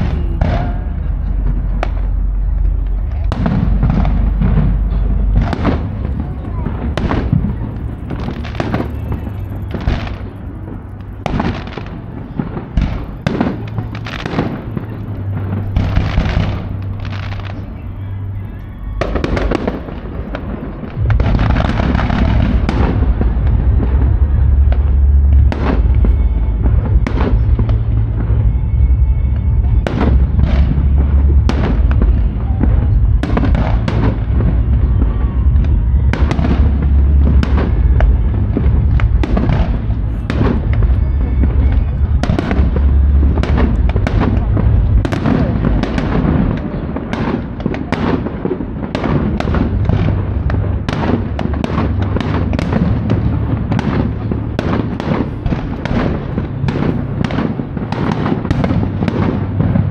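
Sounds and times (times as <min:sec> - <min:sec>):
fireworks bursting: 0:00.0 - 0:59.9
music playing: 0:00.0 - 0:59.9.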